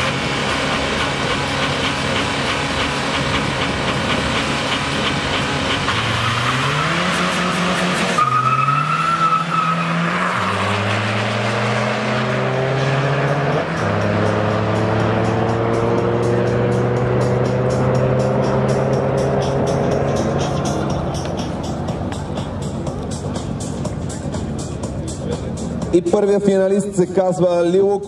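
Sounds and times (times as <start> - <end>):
drag-race car engines revving: 0.0 - 28.0.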